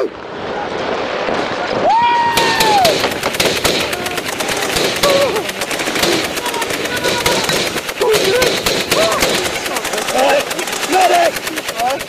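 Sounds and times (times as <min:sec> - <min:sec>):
rapid automatic gunfire: 0:02.3 - 0:12.0.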